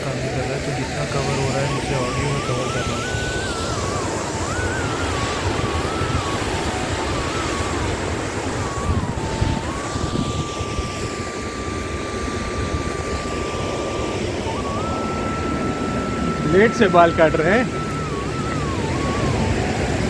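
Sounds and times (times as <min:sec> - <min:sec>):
thin whistle-like tone: 0:00.0 - 0:20.0
water roaring over spillway: 0:00.0 - 0:20.0.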